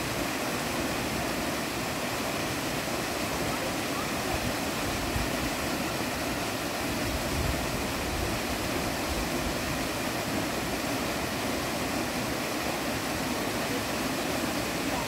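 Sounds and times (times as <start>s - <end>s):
waterfall splashing into pool: 0.0s - 15.0s.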